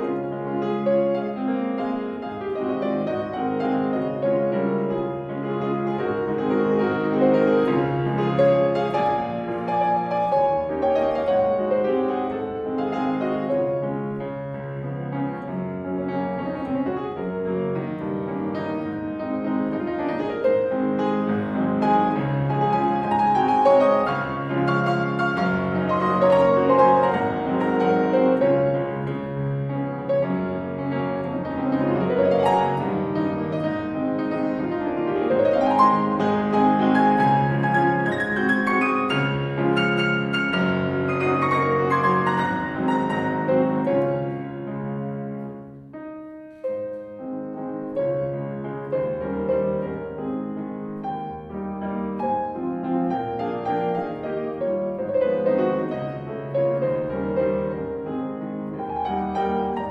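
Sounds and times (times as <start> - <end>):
solo grand piano piece: 0.0 - 59.9.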